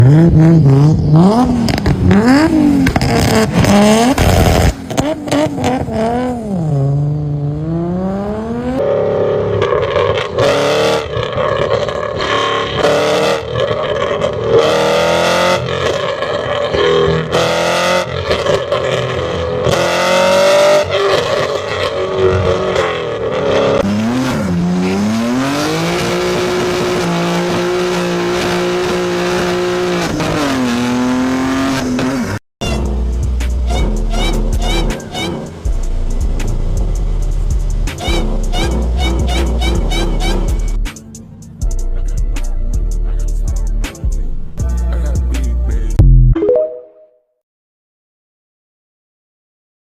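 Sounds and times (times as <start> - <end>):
sports car engines revving: 0.0 - 46.0.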